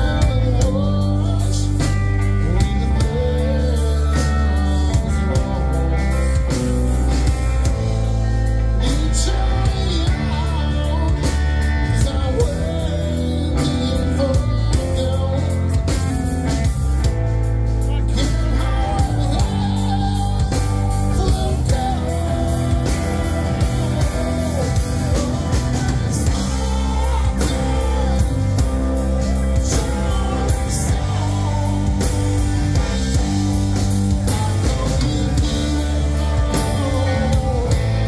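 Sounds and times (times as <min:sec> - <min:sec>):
man singing: 0:00.0 - 0:17.1, 0:17.7 - 0:38.0
drum kit: 0:00.0 - 0:38.0
electric bass: 0:00.0 - 0:38.0
electric guitars: 0:00.0 - 0:38.0.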